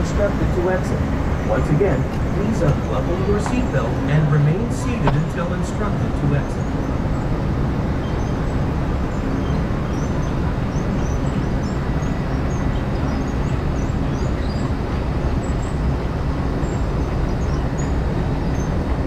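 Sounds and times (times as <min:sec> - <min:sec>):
churning water rushing: 0:00.0 - 0:19.0.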